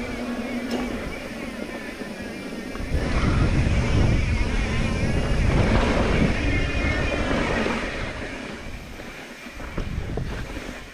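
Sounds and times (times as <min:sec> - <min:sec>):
bike tyres rolling on dirt: 0:00.0 - 0:10.9
wind buffeting microphone: 0:00.0 - 0:10.9.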